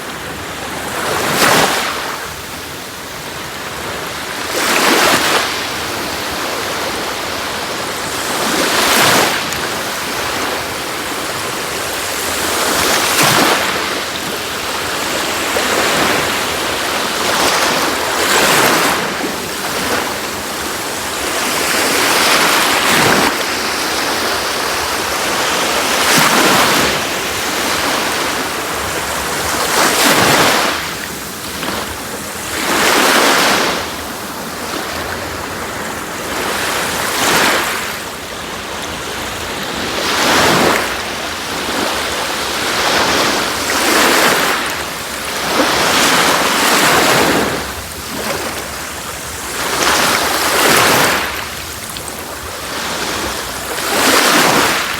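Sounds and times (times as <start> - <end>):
sea waves breaking on beach: 0.0 - 54.9.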